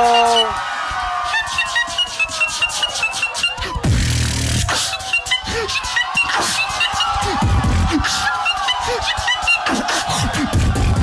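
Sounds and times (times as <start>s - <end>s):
beatboxing into a microphone: 1.2s - 11.0s.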